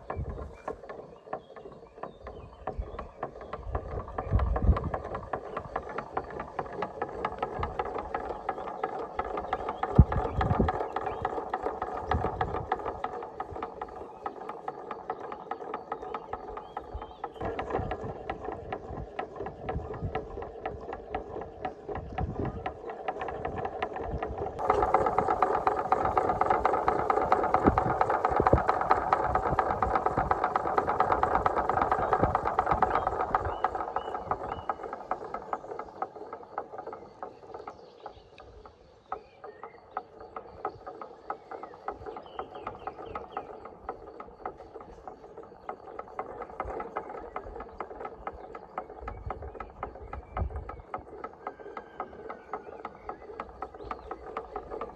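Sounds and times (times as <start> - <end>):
buzzing hum: 0.0 - 51.3
plastic windmill rattling: 0.0 - 54.9
wind rumbling on microphone: 0.0 - 54.9.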